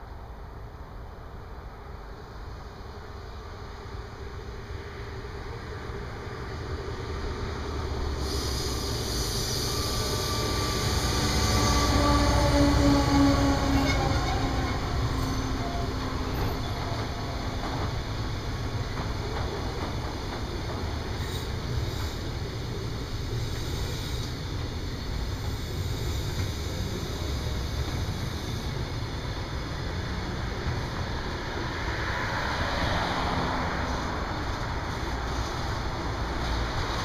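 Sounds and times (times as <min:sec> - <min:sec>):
diesel locomotive passing: 0:01.5 - 0:37.0
train wheels rumbling and clattering: 0:05.2 - 0:37.0.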